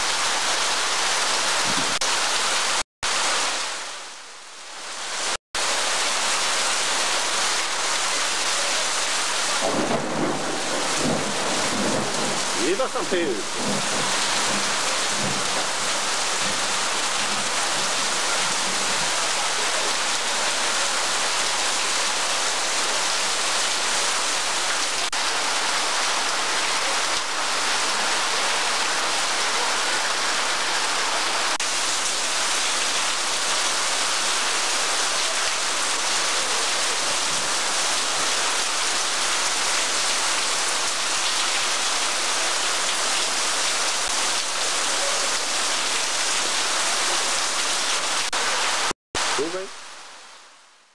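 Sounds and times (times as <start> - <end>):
heavy rain splashing: 0.0 - 50.9.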